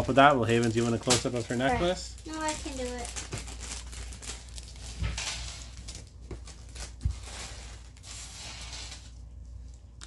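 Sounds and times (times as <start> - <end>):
rustling and handling noises: 0.0 - 10.0.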